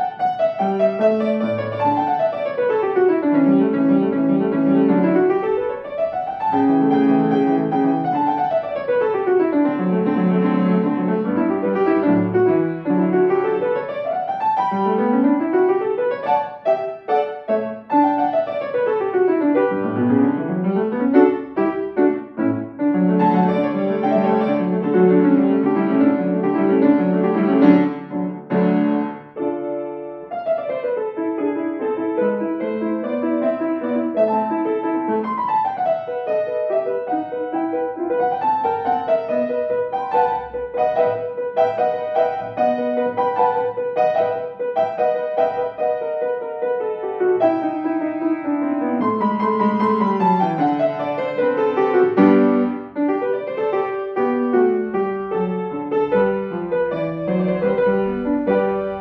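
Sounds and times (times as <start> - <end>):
solo classical piano: 0.0 - 59.0.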